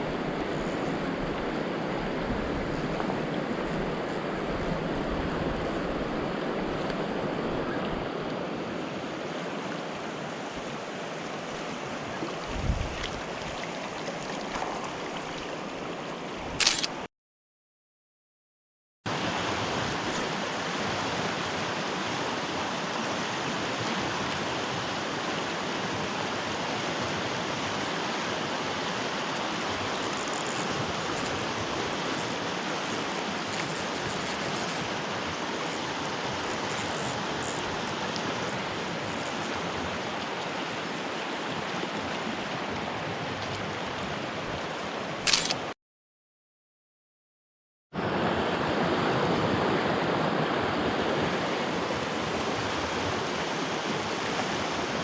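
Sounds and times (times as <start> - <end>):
stream water rushing: 0.0 - 17.1, 19.1 - 45.8, 48.0 - 55.0.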